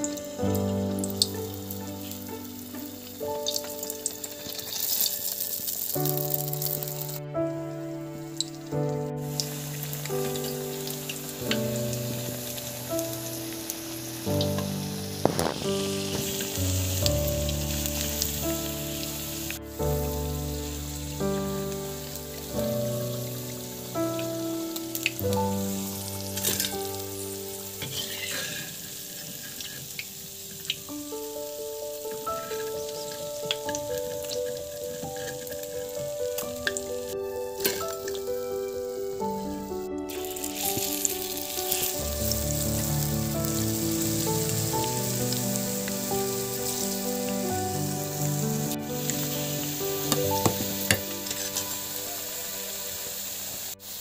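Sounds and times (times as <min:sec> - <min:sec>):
oil sizzling: 0:00.0 - 0:07.4, 0:08.1 - 0:54.0
soft background music: 0:00.0 - 0:54.0.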